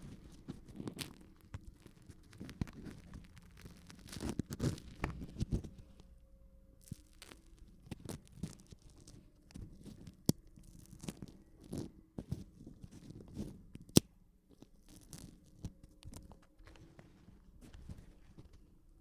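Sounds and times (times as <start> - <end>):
material ripping and snapping: 0.0 - 6.0, 6.8 - 16.8.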